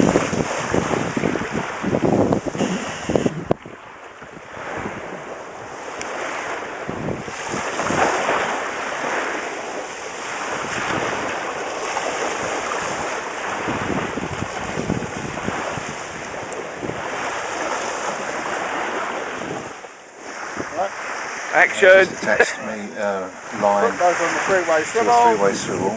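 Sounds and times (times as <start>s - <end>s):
small waves washing on shore: 0.0s - 25.9s
wind buffeting microphone: 0.0s - 25.9s.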